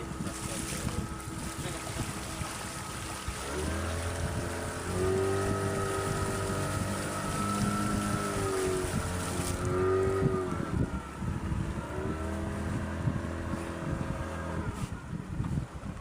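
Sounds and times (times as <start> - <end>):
motorboat engine running: 0.0 - 16.0
wind noise on microphone: 0.0 - 16.0.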